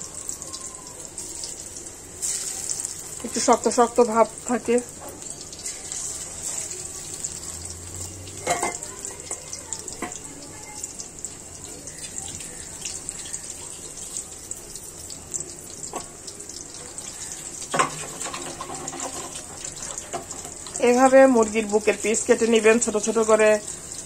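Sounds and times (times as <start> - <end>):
chicken frying in oil: 0.0 - 24.0.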